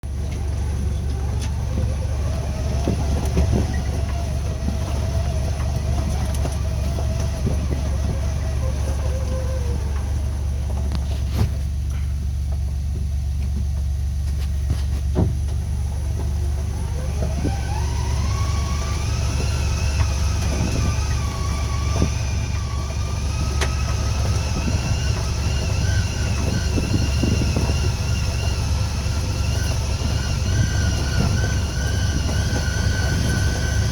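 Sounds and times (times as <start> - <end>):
vehicle engine rumble and whine: 0.0 - 33.9.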